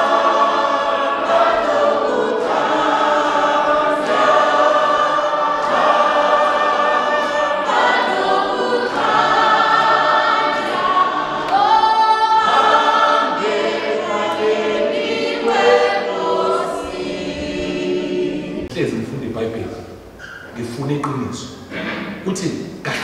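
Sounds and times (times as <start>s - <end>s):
congregation singing a hymn: 0.0s - 19.7s.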